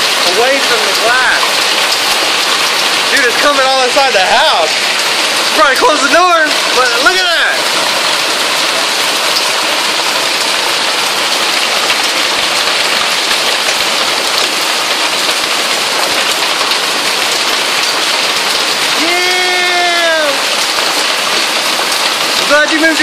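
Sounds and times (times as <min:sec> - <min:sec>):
hailstones striking: 0:00.0 - 0:23.0.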